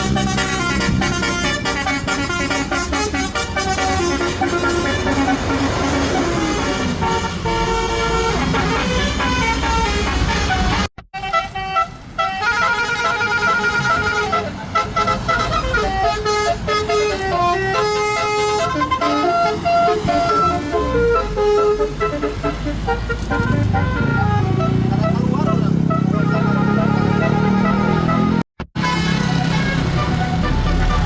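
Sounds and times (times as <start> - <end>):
bus engine running: 0.0 - 31.0
multi-tone air horn tune: 0.0 - 31.0.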